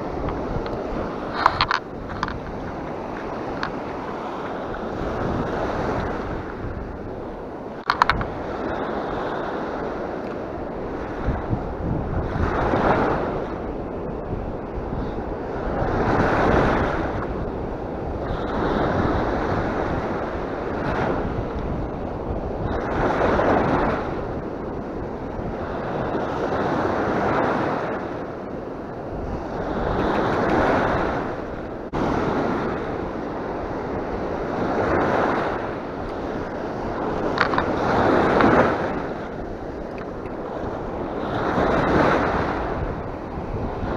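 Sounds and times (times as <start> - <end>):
small waves breaking on beach: 0.0 - 43.9
wind rumbling on microphone: 0.0 - 43.9.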